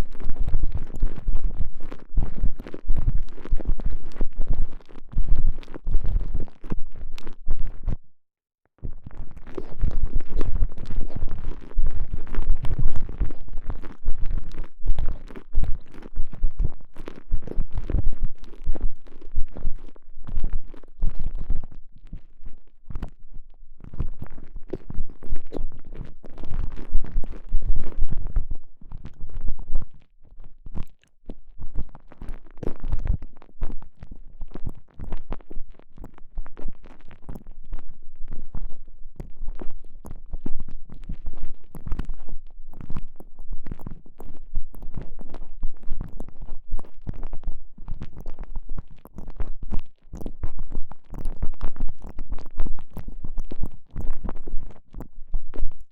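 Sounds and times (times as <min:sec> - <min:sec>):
muffled squishing and crackling: 0:00.0 - 0:08.0, 0:08.7 - 0:55.9.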